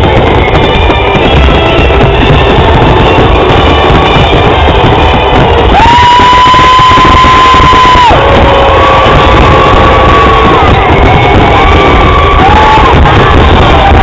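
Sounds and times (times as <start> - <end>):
fireworks bangs: 0.0 - 14.0
loud rock music: 0.0 - 14.0
long high held note: 0.1 - 14.0.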